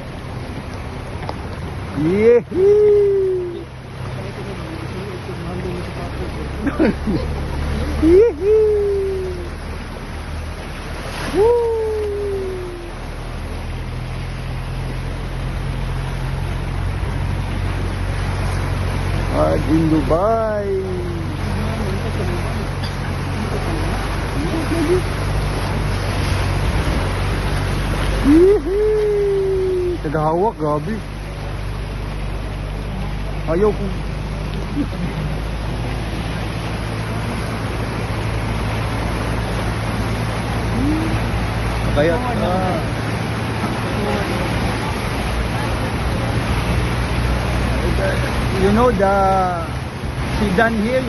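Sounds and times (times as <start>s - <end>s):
heavy rain rushing: 0.0s - 51.0s
low engine hum: 0.0s - 51.0s.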